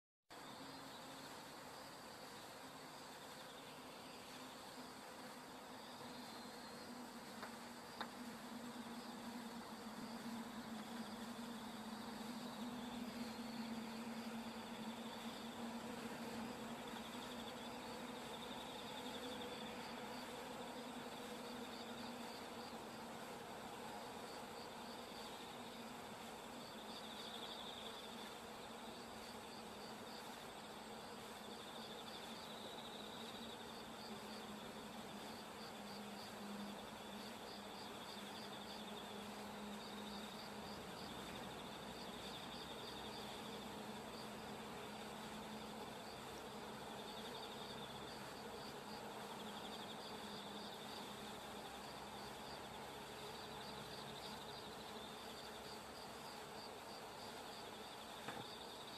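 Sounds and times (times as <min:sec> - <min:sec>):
insects chirping: 0:00.3 - 0:58.9
insect buzzing trill: 0:00.4 - 0:58.9.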